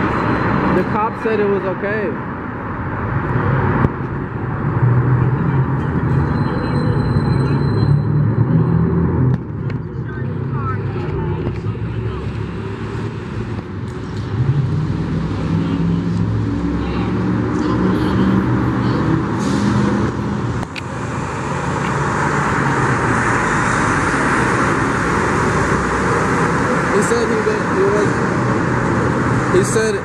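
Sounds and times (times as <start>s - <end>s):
freeway traffic passing: 0.0s - 30.0s.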